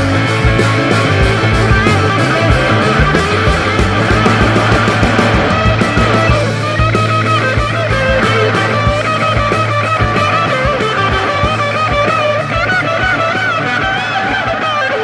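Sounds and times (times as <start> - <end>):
bass: 0.0 - 15.0
electric guitar lead: 0.0 - 15.0
steady drum beat: 0.0 - 15.0.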